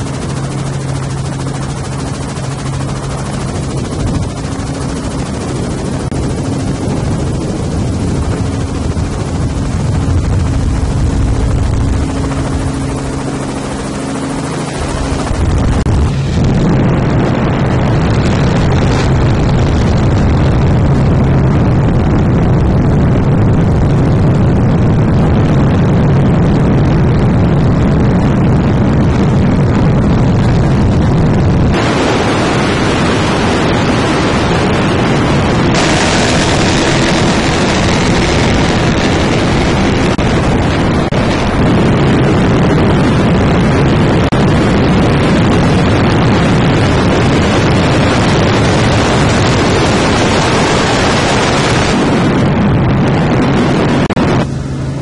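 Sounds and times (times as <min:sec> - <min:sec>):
loud engine noise: 0:00.0 - 0:55.0
wind noise: 0:00.0 - 0:55.0.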